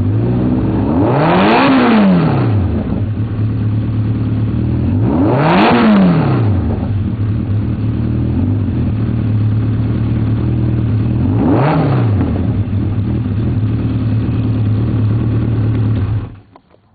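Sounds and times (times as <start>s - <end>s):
engine idling and revving: 0.0s - 16.8s.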